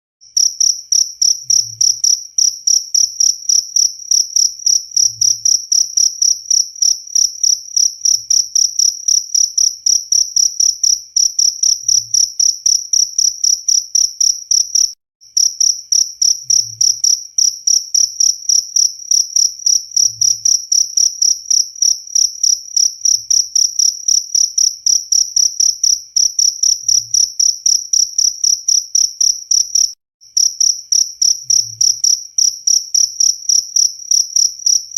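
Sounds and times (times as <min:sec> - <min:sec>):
cricket chirping: 0:00.3 - 0:34.9.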